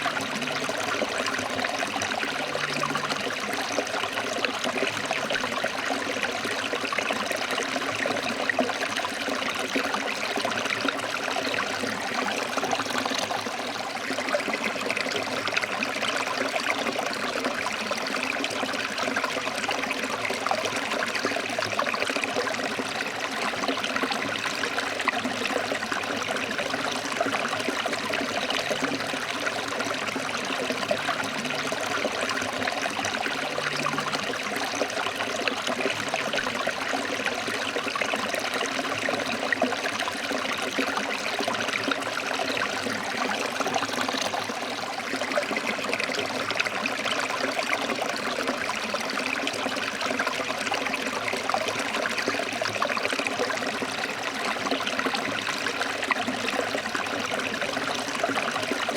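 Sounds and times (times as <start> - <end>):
stream flowing over rocks: 0.0 - 58.9.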